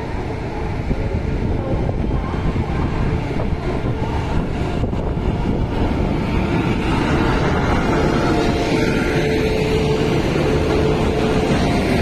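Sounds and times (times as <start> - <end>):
electric locomotive rumbling: 0.0 - 12.0.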